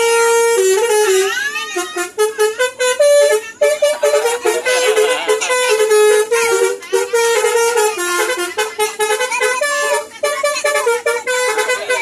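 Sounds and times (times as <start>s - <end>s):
bus musical horn playing tune: 0.0s - 12.0s.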